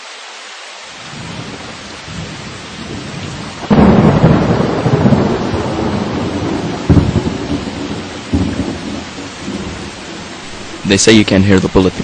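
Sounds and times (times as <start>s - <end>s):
steady rain: 0.0s - 12.0s
thunderclap rumbling: 1.1s - 12.0s.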